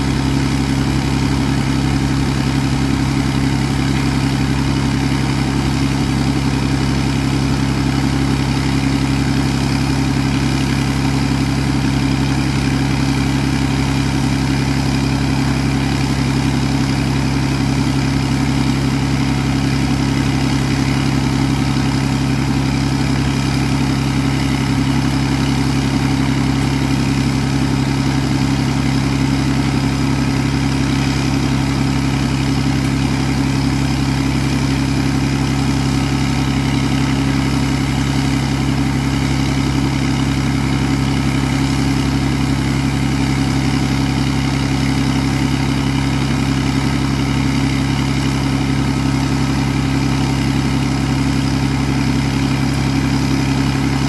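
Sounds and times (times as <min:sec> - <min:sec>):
air compressor engine drone: 0:00.0 - 0:54.0.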